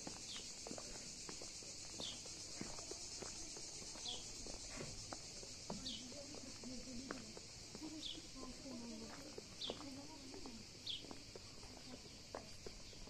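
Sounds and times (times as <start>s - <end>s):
footsteps outdoors: 0.0s - 13.0s
insect chorus: 0.0s - 13.0s.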